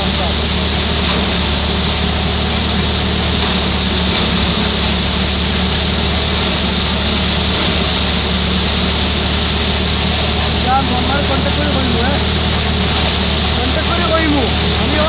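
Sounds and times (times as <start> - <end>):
air and straw rushing: 0.0 - 15.0
thresher mechanical drone: 0.0 - 15.0.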